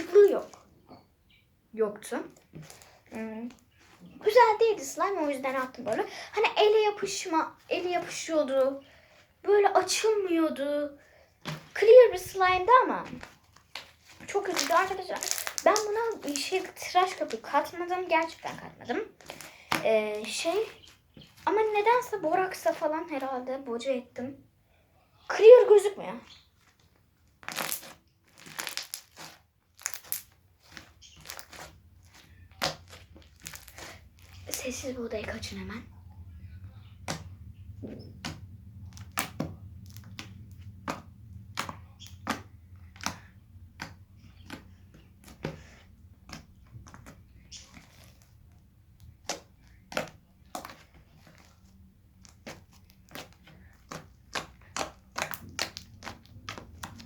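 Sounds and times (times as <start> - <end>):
slime squelching and popping: 2.2 - 10.7, 11.4 - 23.3, 26.3 - 57.0.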